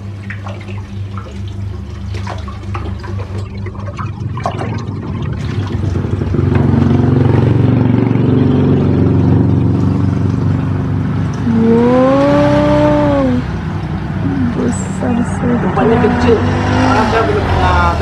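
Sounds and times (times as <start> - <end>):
aquarium filter pump humming: 0.0 - 18.0
engine running: 0.0 - 18.0
water splashing and sloshing: 0.0 - 18.0.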